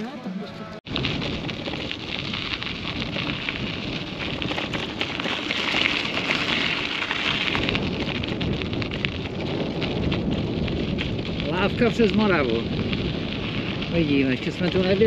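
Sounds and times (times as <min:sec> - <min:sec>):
bicycle tyres crackling on path: 0:00.9 - 0:15.0
wind rumbling on microphone: 0:00.9 - 0:15.0.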